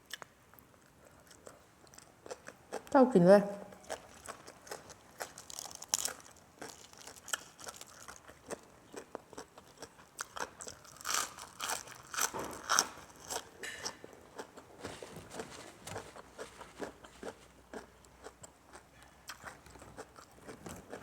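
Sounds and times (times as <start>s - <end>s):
person chewing crunchy food: 0.0s - 2.9s, 3.7s - 21.0s.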